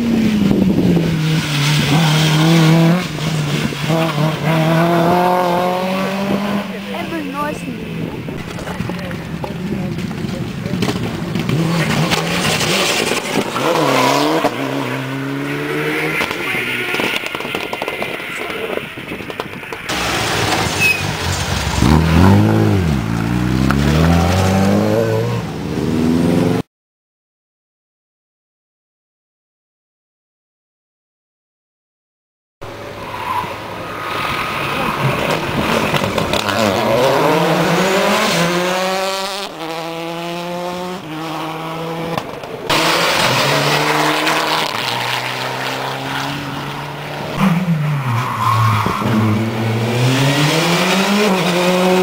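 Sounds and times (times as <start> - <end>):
rally car engine revving: 0.0 - 26.6, 32.7 - 52.0.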